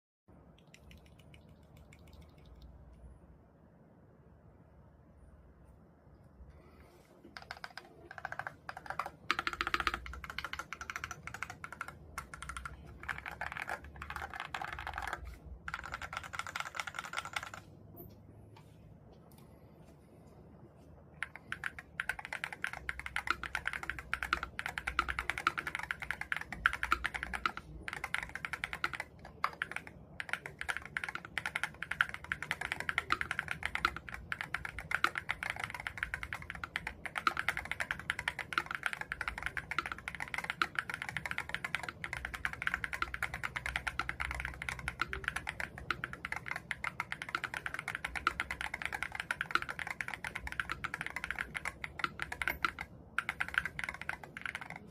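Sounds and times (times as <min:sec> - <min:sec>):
typing on mechanical keyboard: 0:00.5 - 0:02.8, 0:07.2 - 0:18.1, 0:21.2 - 0:54.9.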